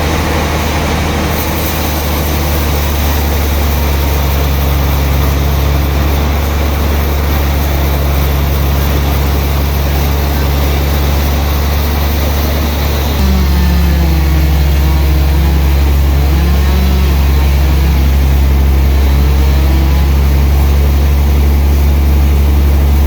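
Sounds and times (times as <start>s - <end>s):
sawmill engine humming: 0.0s - 23.0s.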